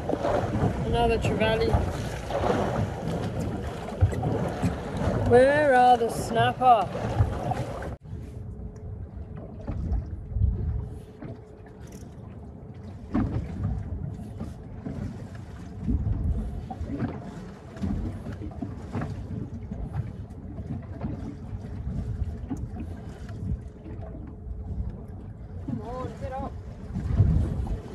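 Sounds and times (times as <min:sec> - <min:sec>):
faint steady hum: 0:00.0 - 0:27.9
water noise: 0:00.0 - 0:27.9
wind: 0:00.0 - 0:27.9.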